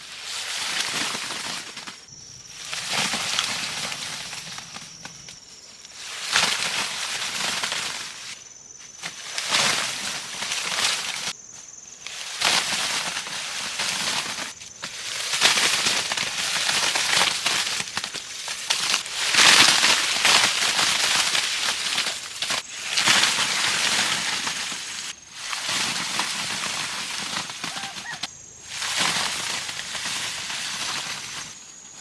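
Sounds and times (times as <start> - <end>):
dry plant material rustling: 0.0 - 32.0.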